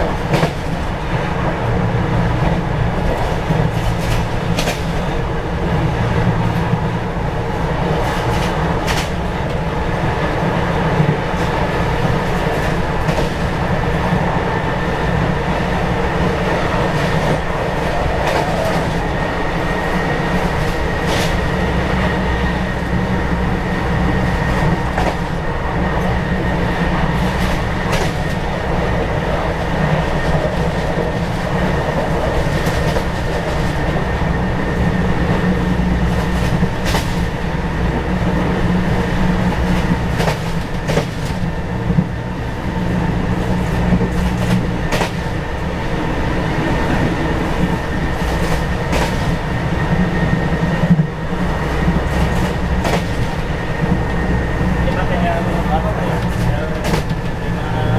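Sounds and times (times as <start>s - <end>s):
electric train rumbling: 0.0s - 57.9s
wheels clicking over rail joints: 2.4s - 14.4s, 15.2s - 57.9s.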